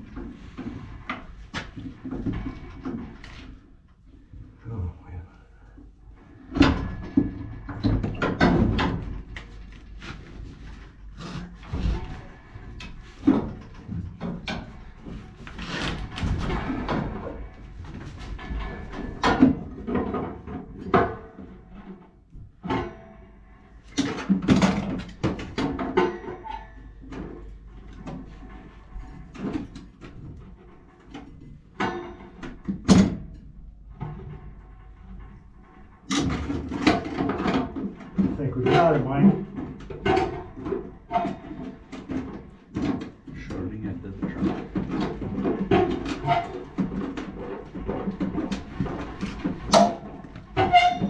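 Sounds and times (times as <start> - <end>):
metal knocks and scraping: 6.2 - 51.0.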